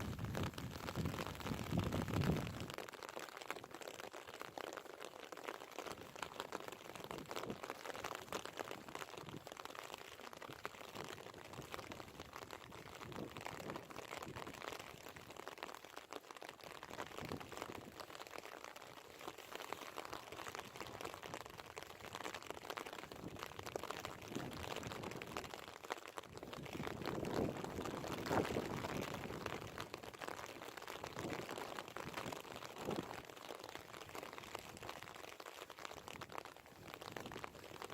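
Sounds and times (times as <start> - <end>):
rain patter: 0.0 - 37.9.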